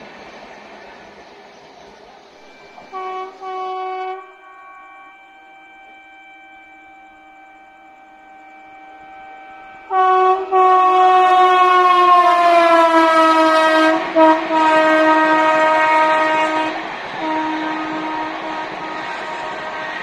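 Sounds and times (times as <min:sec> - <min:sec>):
train coaches rumbling past: 0:00.0 - 0:20.0
train horn: 0:02.4 - 0:20.0.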